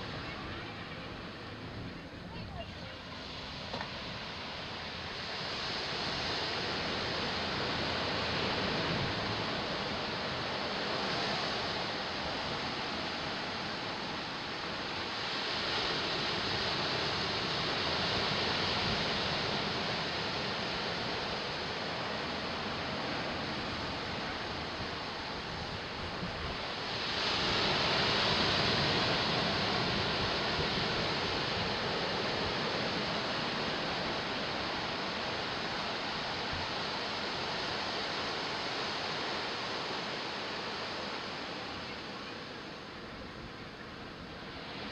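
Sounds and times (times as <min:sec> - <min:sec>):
ocean waves and surf: 0:00.0 - 0:44.9.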